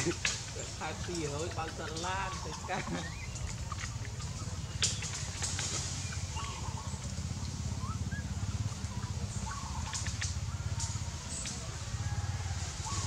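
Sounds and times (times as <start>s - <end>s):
low pulsing motor rumble: 0.0s - 13.0s.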